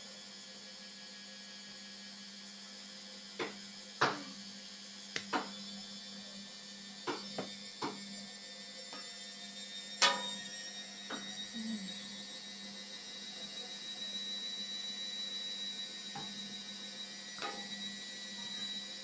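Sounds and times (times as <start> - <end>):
washing machine humming: 1.6 - 19.0.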